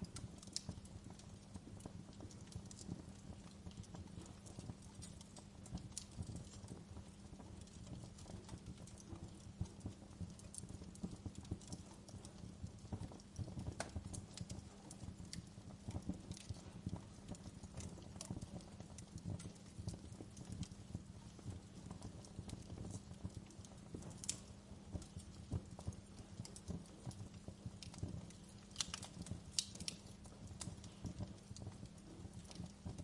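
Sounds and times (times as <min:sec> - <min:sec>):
fire popping and snapping: 0:00.0 - 0:33.0
low rumble of burning logs: 0:00.0 - 0:33.0.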